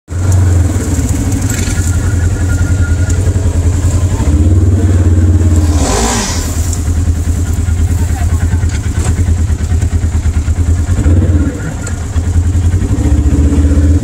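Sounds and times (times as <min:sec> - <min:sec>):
engine idling with low throb: 0:00.1 - 0:14.0.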